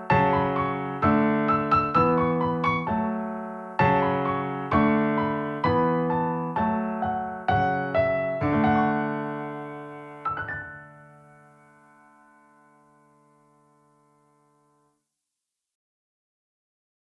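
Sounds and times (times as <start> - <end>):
slow solo piano: 0.0 - 14.2.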